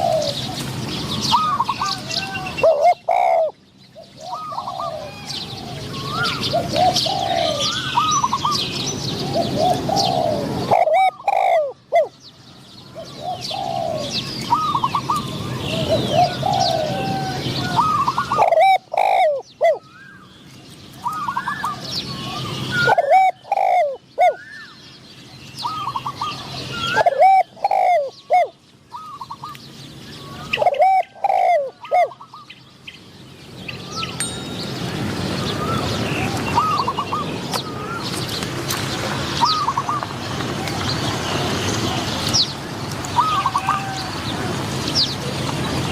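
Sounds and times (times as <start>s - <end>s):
doves cooing: 0.0s - 12.2s, 12.9s - 20.2s, 21.0s - 24.7s, 25.6s - 29.6s, 30.2s - 32.5s, 35.1s - 38.6s, 39.3s - 42.4s, 43.0s - 45.4s
small birds chirping: 0.0s - 45.9s.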